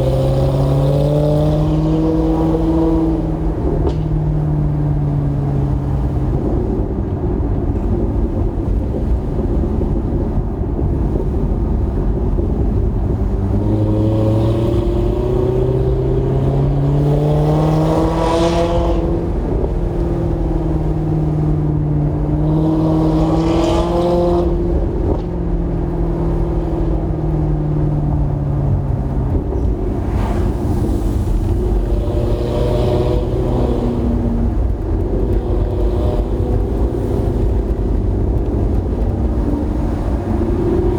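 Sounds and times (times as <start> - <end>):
car engine revving: 0.0 - 6.6, 12.4 - 40.9.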